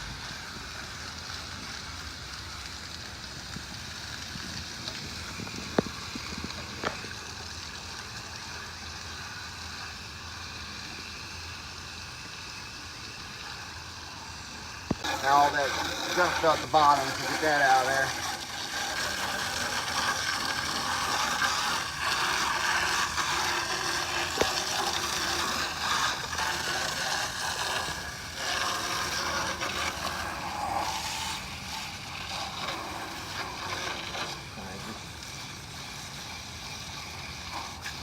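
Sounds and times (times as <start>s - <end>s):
hose water spraying hiss: 0.0s - 38.0s.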